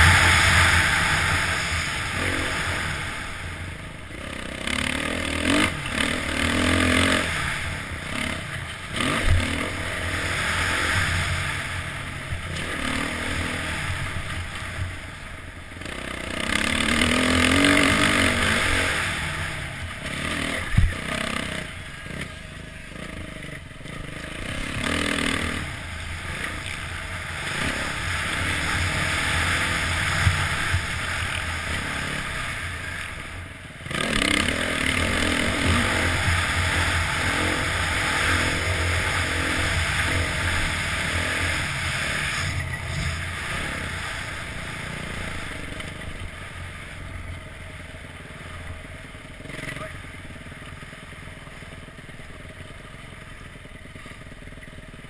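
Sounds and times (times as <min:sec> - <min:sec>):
motorbike engine revving: 0:00.0 - 0:53.2.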